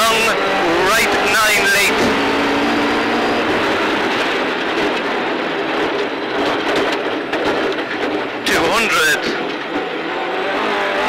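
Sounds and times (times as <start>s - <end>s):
car engine: 0.0s - 11.0s
tyre and road noise: 0.0s - 11.0s
gravel rattling against car: 0.6s - 10.0s.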